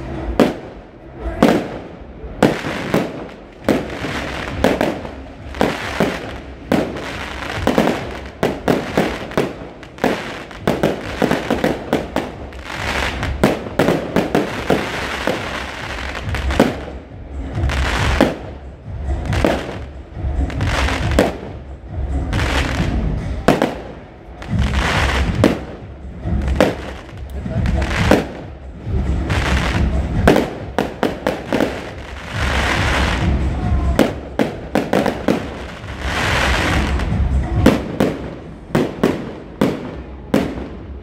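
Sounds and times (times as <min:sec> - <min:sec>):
fireworks crackle: 0:00.0 - 0:41.0.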